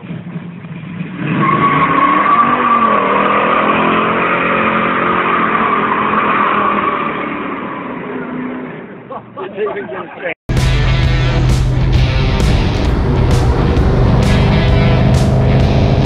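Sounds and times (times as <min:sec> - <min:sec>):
car engine revving: 0:00.0 - 0:09.0, 0:10.5 - 0:16.0.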